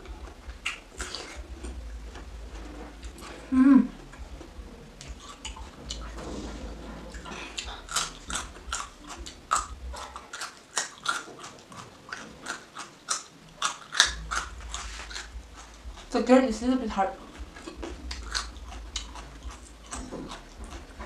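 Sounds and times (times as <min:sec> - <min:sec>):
carrot being chewed: 0:00.0 - 0:16.3, 0:17.0 - 0:21.0.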